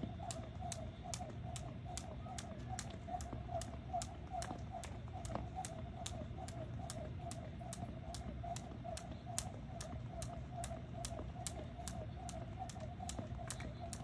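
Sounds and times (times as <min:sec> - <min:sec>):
jump rope slapping ground: 0:00.0 - 0:14.0.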